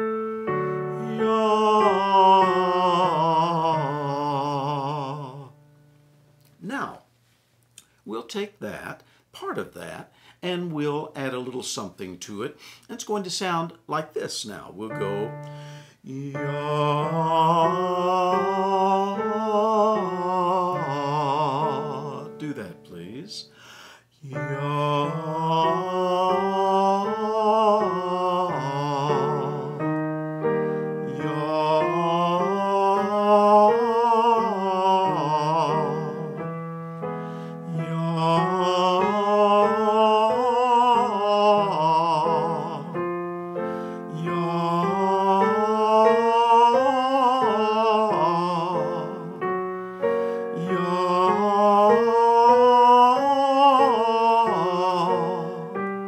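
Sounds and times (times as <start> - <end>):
electric keyboard accompaniment: 0.0 - 5.4, 14.9 - 23.5, 24.3 - 56.0
man singing vocal exercise: 0.9 - 5.6, 8.1 - 30.0, 31.0 - 36.5, 37.3 - 49.5, 50.2 - 55.8.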